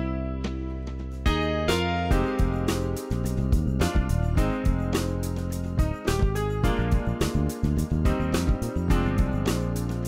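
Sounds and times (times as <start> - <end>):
music with steady beat and bass: 0.0 - 10.0.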